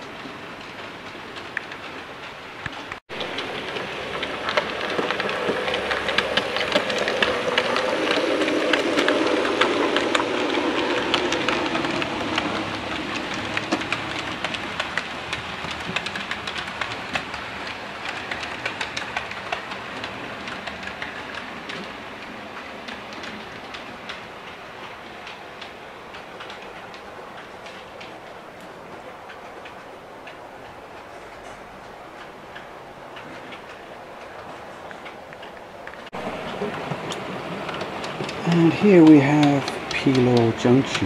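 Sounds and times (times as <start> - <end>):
model train wheels clicking: 0.0 - 41.0.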